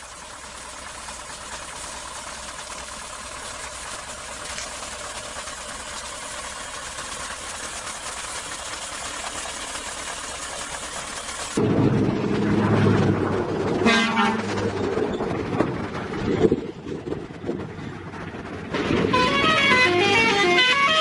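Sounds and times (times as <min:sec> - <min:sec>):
truck engines humming: 0:00.0 - 0:21.0.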